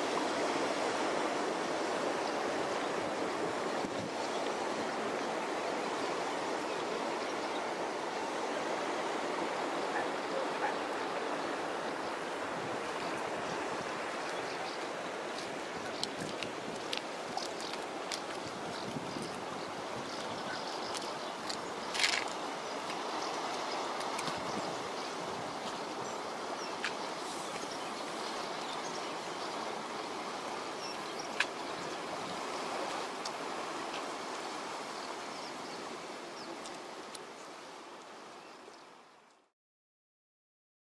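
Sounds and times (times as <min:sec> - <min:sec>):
rushing water: 0:00.0 - 0:39.5.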